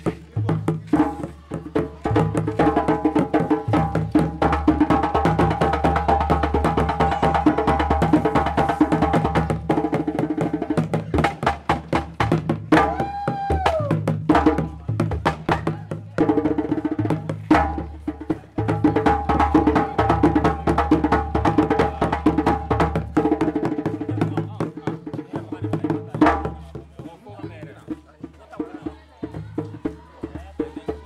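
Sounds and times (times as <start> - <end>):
fast hand drumming: 0.0 - 31.0.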